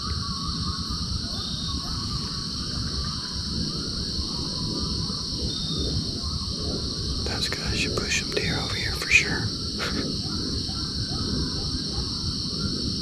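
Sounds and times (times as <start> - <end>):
coyotes howling and yipping: 0.0 - 13.0
night insects chorus: 0.0 - 13.0
wind rumbling on microphone: 0.0 - 13.0.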